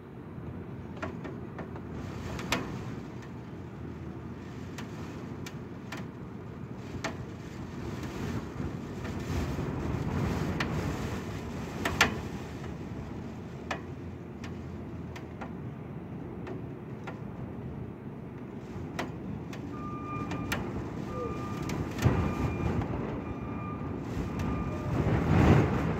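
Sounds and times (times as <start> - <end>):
wind gusting with low rumble: 0.0 - 25.9.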